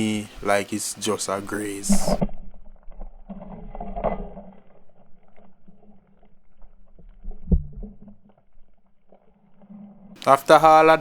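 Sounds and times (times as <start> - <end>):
low steady underwater hum: 0.0 - 10.2
faint rustling: 0.0 - 10.6.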